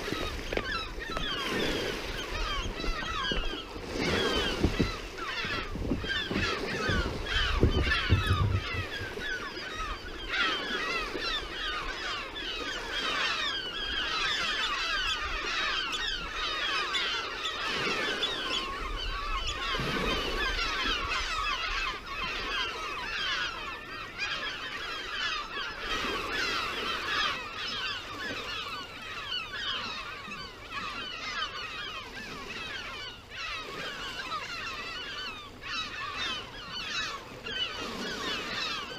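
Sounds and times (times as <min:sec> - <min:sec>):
flock of birds calling: 0:00.0 - 0:38.9.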